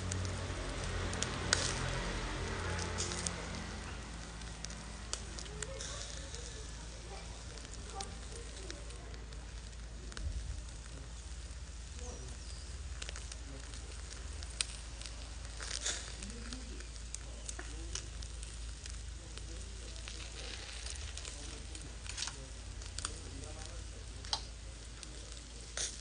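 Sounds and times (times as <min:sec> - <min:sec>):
chicken wings sizzling on grill: 0:00.0 - 0:26.0
coals crackling and popping: 0:00.0 - 0:26.0.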